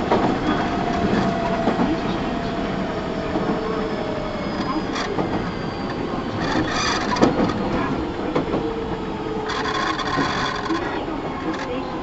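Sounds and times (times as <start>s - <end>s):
train wheels on rail: 0.0s - 12.0s.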